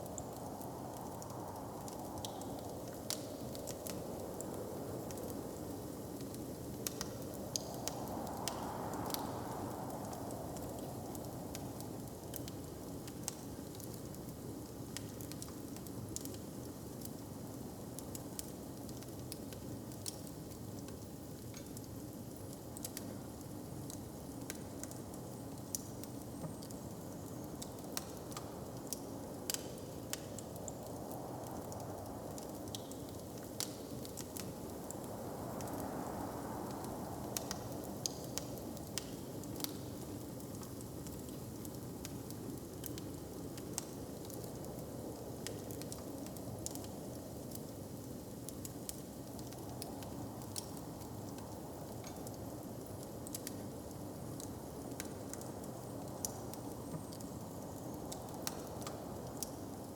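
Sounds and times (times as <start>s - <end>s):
low background hiss: 0.0s - 59.9s
wood fire crackling: 0.0s - 59.9s.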